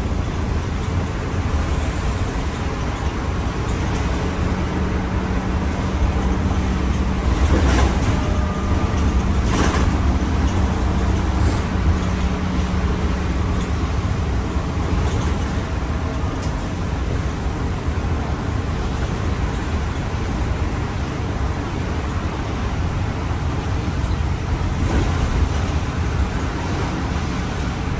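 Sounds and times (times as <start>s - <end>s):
bus engine and road rumble: 0.0s - 27.9s
constant hum: 0.0s - 27.9s.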